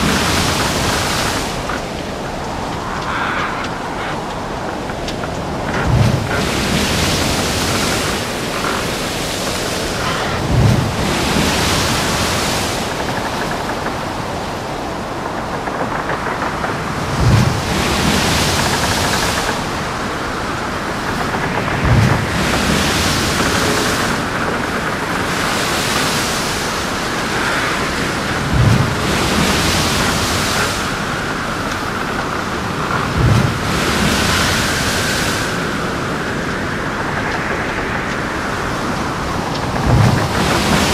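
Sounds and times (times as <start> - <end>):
waves washing in: 0.0 - 40.9
wind: 0.0 - 40.9.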